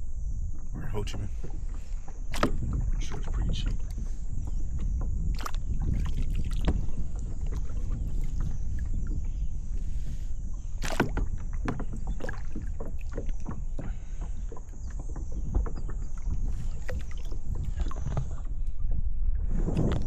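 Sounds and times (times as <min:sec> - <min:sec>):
low wind rumble on microphone: 0:00.0 - 0:20.0
paddle splashing and dripping: 0:00.4 - 0:20.0
paddle knocks: 0:00.6 - 0:09.8, 0:10.4 - 0:18.5.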